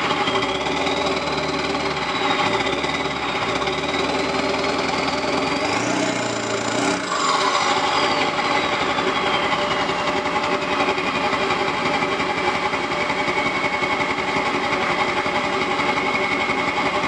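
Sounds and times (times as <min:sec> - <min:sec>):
high turbo whistle: 0:00.0 - 0:14.3
diesel engine clatter: 0:00.0 - 0:17.0.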